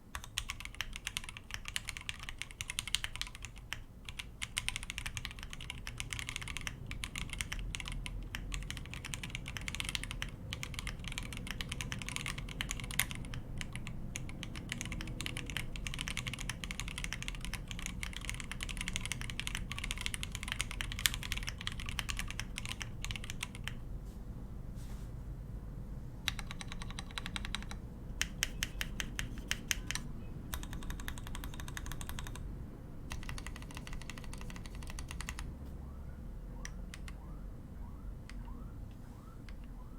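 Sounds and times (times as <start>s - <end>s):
mechanical keyboard typing clacks: 0.2s - 23.8s, 26.3s - 32.5s, 33.1s - 35.5s.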